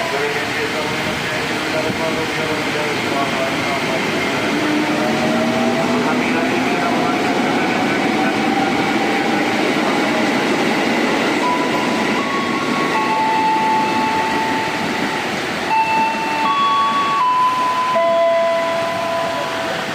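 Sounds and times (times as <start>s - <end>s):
electric train rumble: 0.0s - 19.9s.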